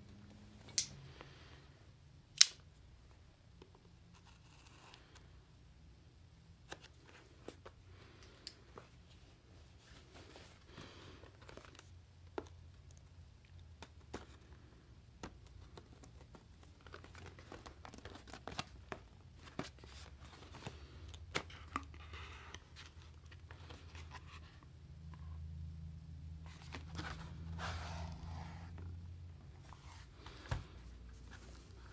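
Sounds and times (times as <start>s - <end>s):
low steady hum: 0.0s - 31.9s.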